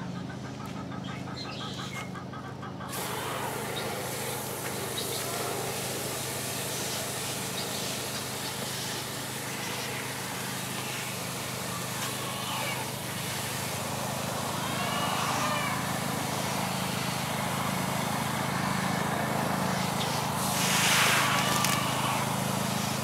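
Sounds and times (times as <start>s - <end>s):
low engine drone: 0.0s - 23.0s
hose water spraying into soil: 2.9s - 23.0s.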